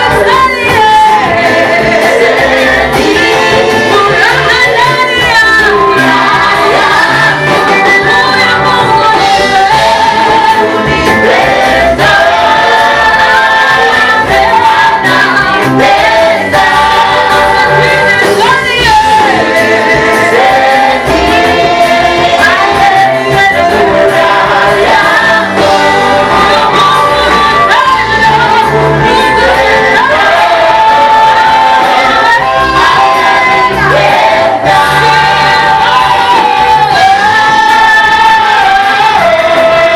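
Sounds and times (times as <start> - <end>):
band accompaniment: 0.0 - 39.9
group singing praise song: 0.0 - 39.9.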